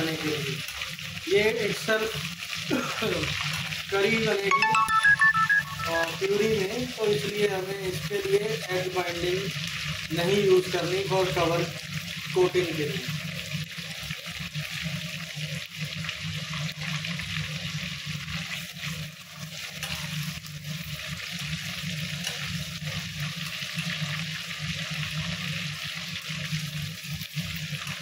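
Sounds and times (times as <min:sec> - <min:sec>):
chicken frying in oil: 0:00.0 - 0:28.0.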